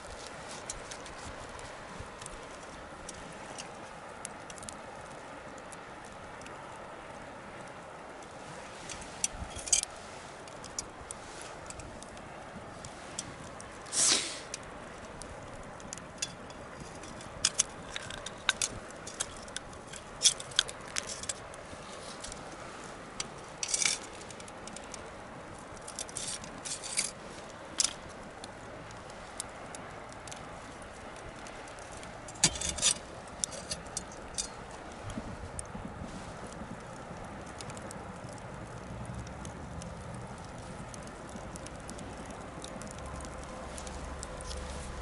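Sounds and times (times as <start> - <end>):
bonfire crackling: 0.0 - 45.0
low fire hiss: 0.0 - 45.0.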